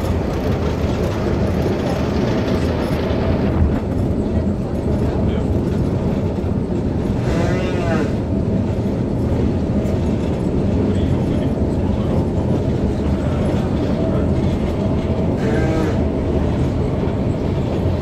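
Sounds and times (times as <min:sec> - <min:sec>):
railway carriage rattling: 0:00.0 - 0:18.0.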